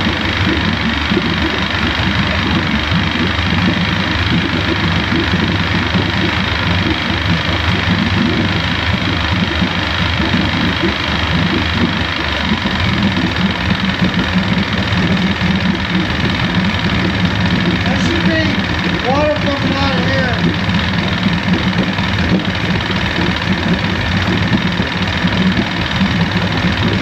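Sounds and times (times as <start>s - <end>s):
outboard engine idling: 0.0s - 27.0s.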